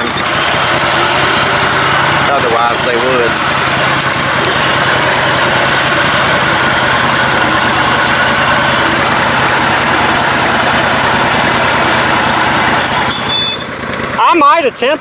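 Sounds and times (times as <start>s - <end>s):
riding lawn mower engine running: 0.0s - 15.0s.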